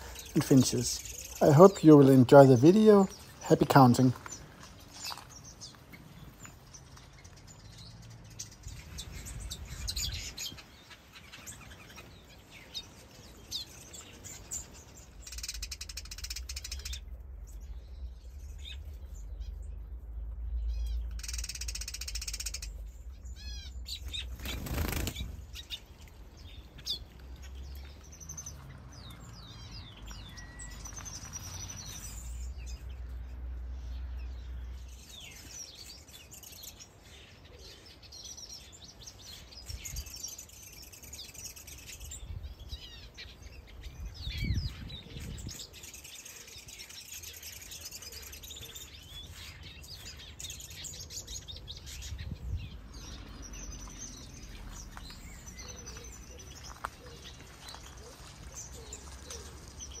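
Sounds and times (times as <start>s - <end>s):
small birds chirping and trilling: 0.0s - 60.0s.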